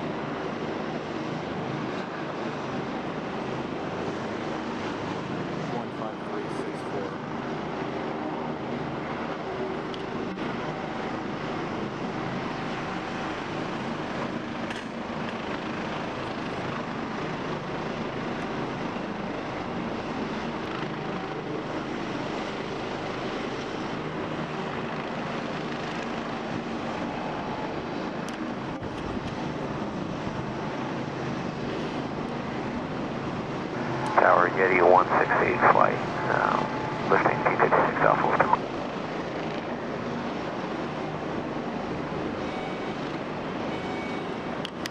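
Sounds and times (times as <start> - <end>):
helicopter rotors and turbines: 0.0 - 44.9.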